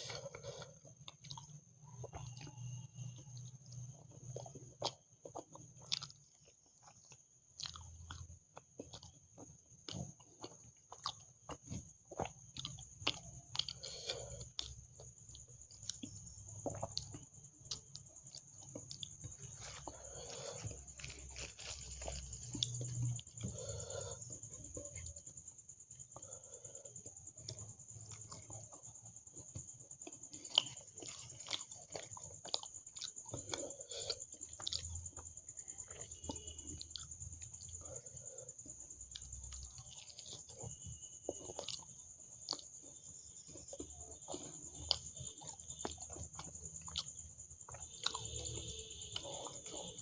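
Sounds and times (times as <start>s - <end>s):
chewing and crunching food: 0.0s - 50.0s.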